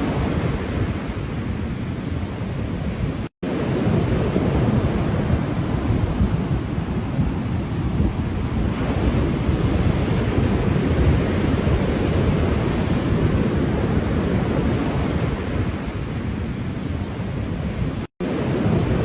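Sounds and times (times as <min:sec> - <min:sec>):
ocean surf rushing: 0:00.0 - 0:19.0.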